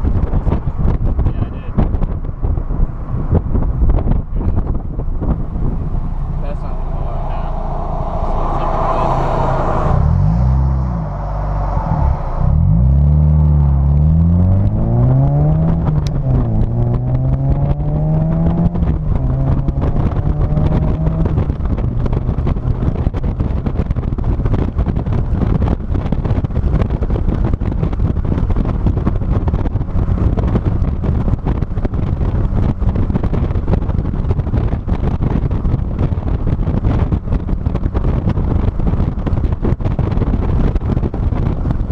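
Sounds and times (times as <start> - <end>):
wind buffeting microphone: 0.0 - 41.9
car engine accelerating: 1.9 - 41.9.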